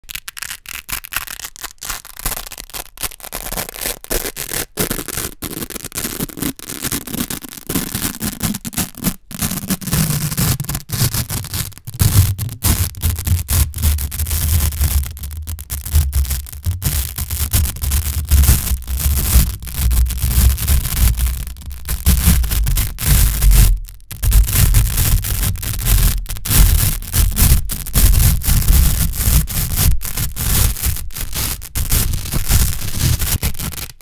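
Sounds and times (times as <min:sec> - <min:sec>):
velcro ripping: 0:00.0 - 0:34.0.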